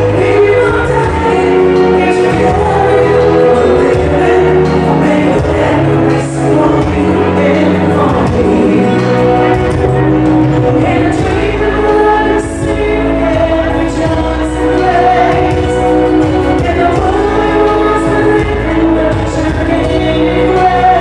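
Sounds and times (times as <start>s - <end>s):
backing music: 0.0s - 21.0s
woman singing into microphone: 0.0s - 21.0s.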